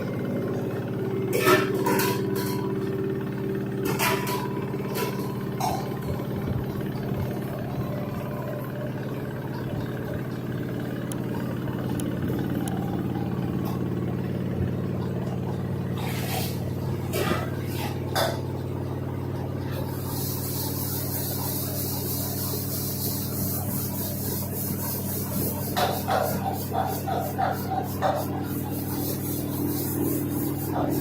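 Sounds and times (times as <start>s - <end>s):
washing machine humming and rumbling: 0.0s - 31.0s.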